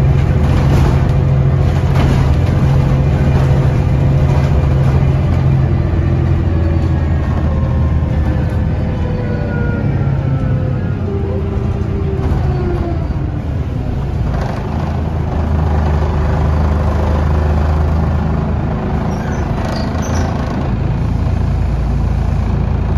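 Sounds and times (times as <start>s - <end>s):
bus drivetrain whine: 0.0s - 22.9s
bus engine rumble: 0.0s - 22.9s
road noise: 0.0s - 22.9s.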